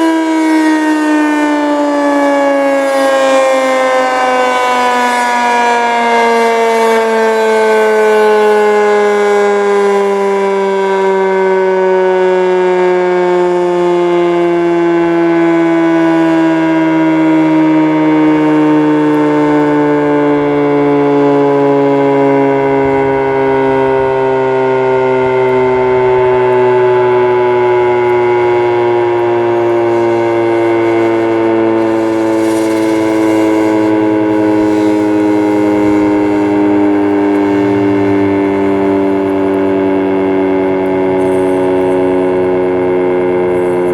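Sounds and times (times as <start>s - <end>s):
siren winding down: 0.0s - 43.9s.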